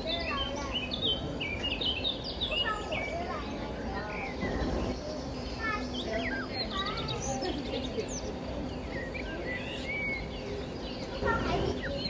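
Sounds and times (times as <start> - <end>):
murmur of crowd chatter: 0.0 - 12.0
small birds chirping: 0.0 - 12.0.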